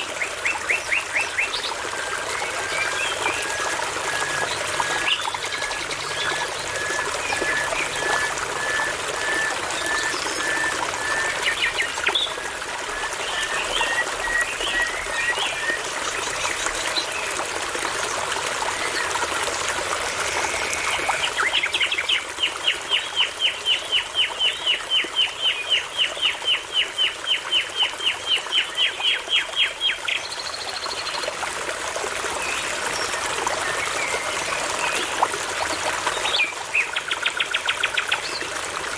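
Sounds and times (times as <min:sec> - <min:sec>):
babbling brook: 0:00.0 - 0:38.9.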